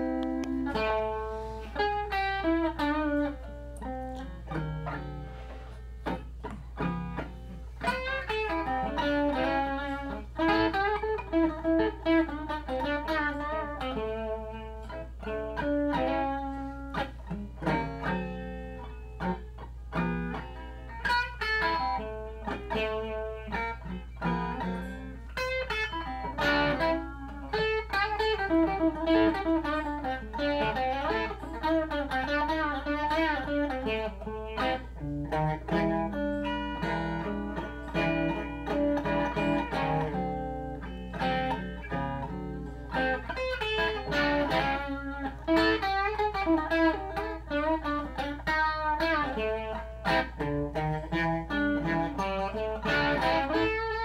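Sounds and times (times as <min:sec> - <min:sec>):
electric guitar blues lines: 0:00.0 - 0:54.0
low amplifier hum: 0:00.0 - 0:54.0.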